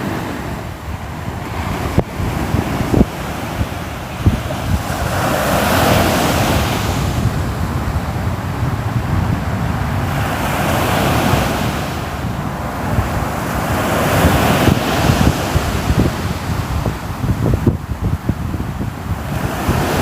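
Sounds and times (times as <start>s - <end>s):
sea surf washing in: 0.0s - 20.0s
wind rumble on microphone: 0.0s - 20.0s.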